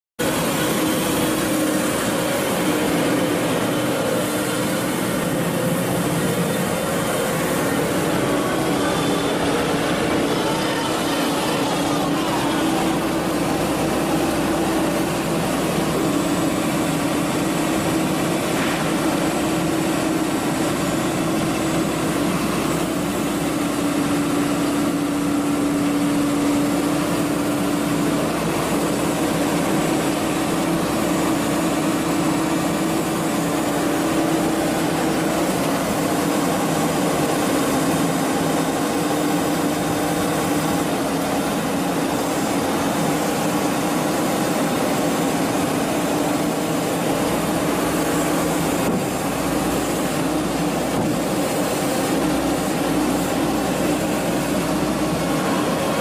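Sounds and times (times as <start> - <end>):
loader engine running: 0.2 - 56.0.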